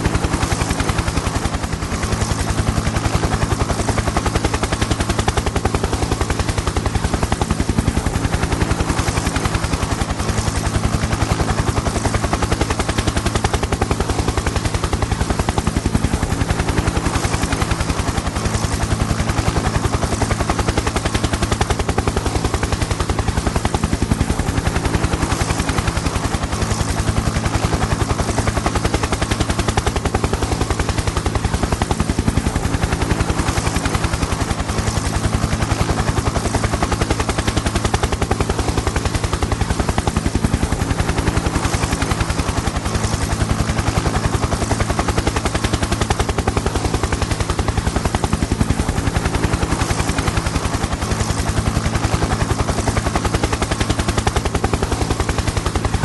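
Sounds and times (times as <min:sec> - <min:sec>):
helicopter engine drone: 0:00.0 - 0:56.0
helicopter rotor blades chopping: 0:00.0 - 0:56.0.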